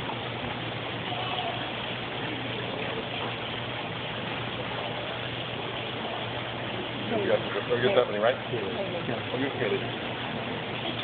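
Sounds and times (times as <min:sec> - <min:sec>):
low steady hum: 0:00.0 - 0:11.0
water running down waterfall: 0:00.0 - 0:11.0.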